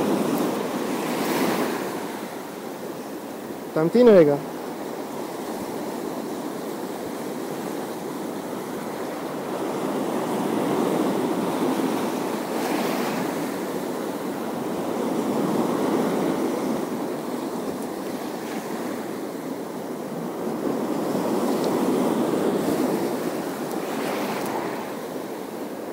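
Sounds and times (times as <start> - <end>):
sea waves washing onto shore: 0.0 - 25.9.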